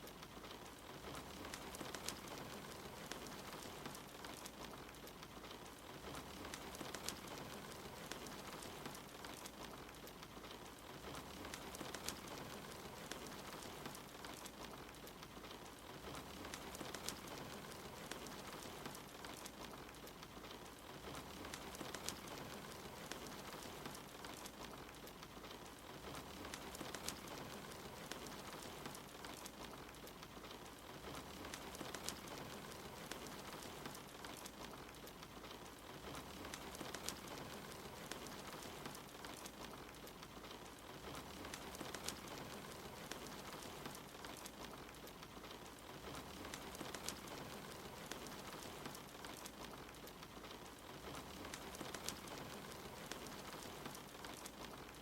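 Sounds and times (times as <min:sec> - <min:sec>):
steady rain: 0:00.0 - 0:55.0
wood fire crackling and popping: 0:00.0 - 0:55.0.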